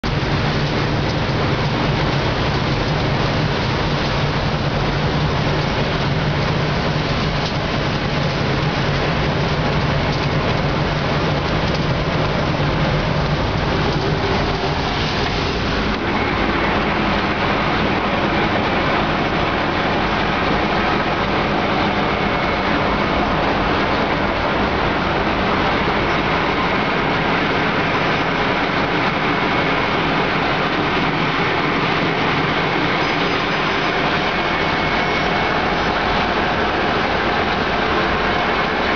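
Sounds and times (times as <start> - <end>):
low engine drone: 0.0 - 38.9
milling machine grinding road: 0.1 - 38.9.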